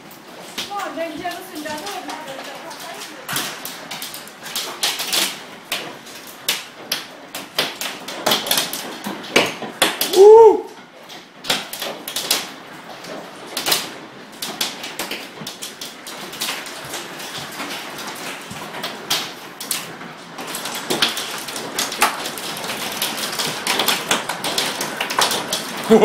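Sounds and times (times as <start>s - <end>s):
hail pelting windows and roof: 0.0s - 26.0s.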